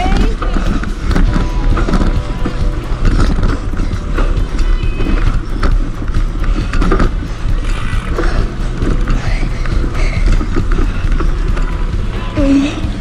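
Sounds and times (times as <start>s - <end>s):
low tyre rumble: 0.0s - 13.0s
mountain bike rattling: 0.0s - 13.0s.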